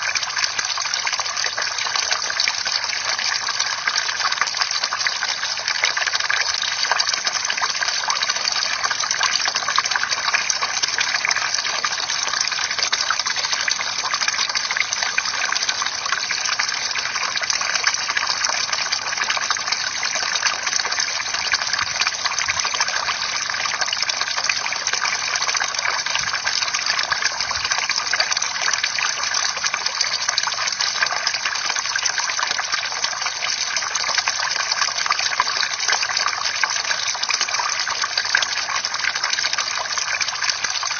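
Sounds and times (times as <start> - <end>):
water drips and plinks: 0.0 - 40.9
water pouring into pool: 0.0 - 40.9.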